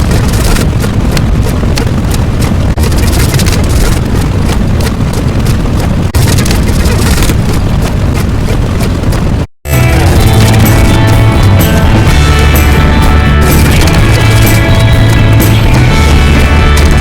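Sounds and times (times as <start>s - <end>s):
loud rumbling noise: 0.0s - 17.0s.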